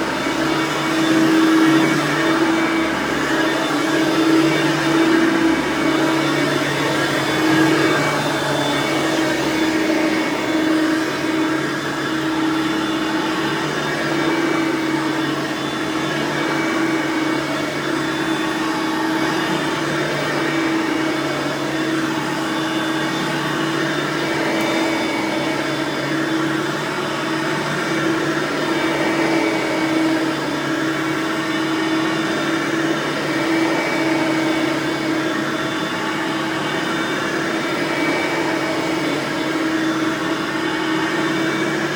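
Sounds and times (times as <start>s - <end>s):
upright vacuum running: 0.0s - 41.9s.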